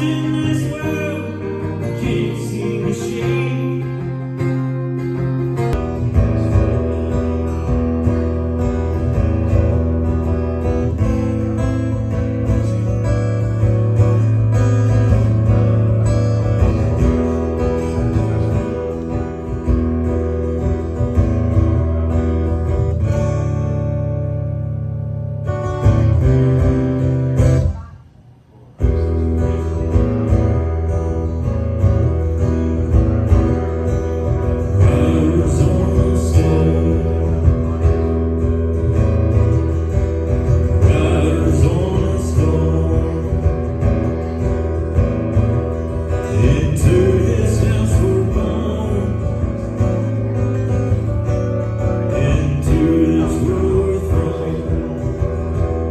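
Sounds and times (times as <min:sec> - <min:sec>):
strummed guitar music: 0:00.0 - 0:55.9.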